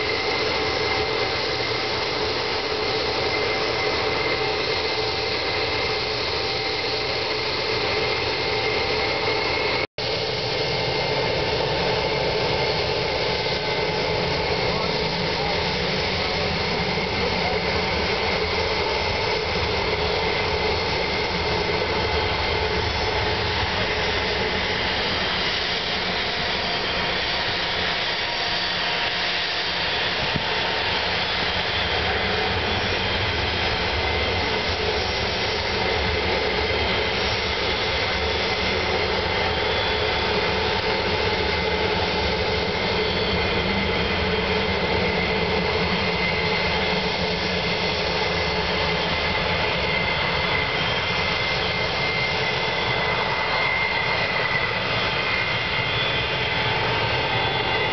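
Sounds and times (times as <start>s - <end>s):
jet engines whining at taxi power: 0.0s - 57.9s.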